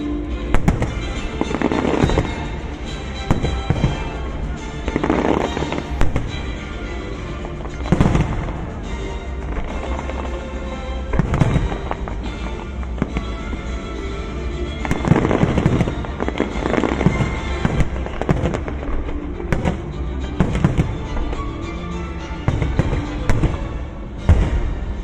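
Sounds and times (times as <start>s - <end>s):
fireworks bangs and crackling: 0.0s - 25.0s
music playing: 0.0s - 25.0s.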